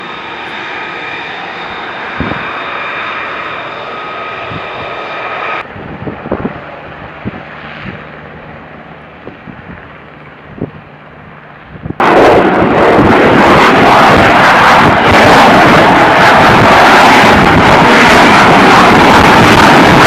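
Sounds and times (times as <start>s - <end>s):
jet engine roaring with high whine: 0.0s - 20.0s
low engine rumble: 0.0s - 20.0s.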